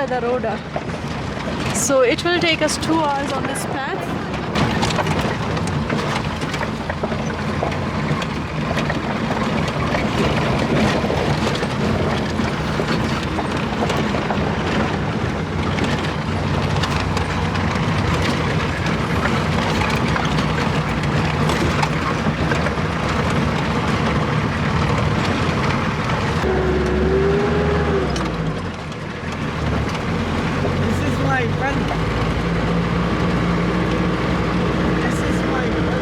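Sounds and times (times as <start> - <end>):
vehicle engine running: 0.0 - 36.0
knocks and rattles: 0.6 - 26.5, 28.1 - 36.0.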